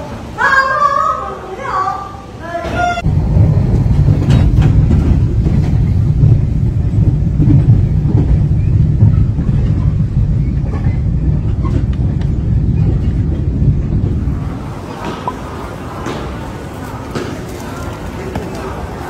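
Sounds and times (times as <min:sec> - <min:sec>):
train running inside carriage: 0:00.0 - 0:19.0.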